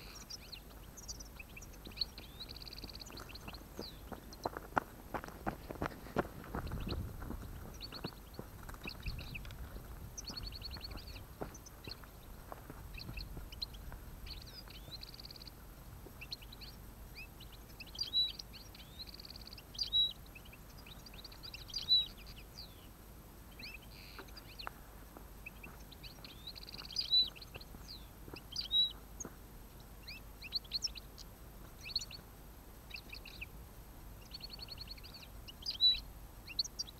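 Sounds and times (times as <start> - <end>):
finches singing and twittering: 0.0 - 4.6, 6.5 - 24.8, 25.4 - 32.3, 32.9 - 33.5, 34.2 - 36.9.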